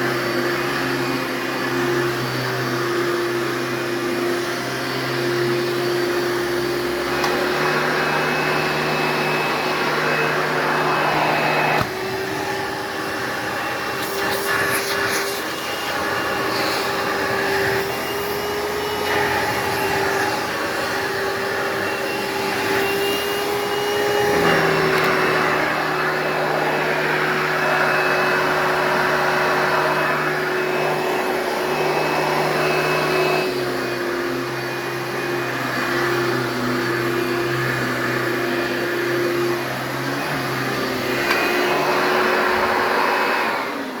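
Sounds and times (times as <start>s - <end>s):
upright vacuum cleaner whine: 0.0s - 44.0s.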